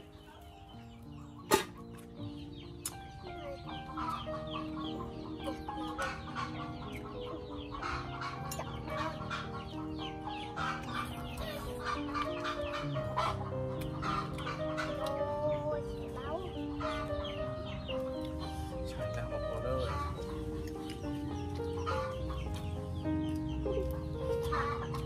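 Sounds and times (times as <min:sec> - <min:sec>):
chickens clucking: 0:00.0 - 0:25.0
music playing: 0:00.0 - 0:25.0.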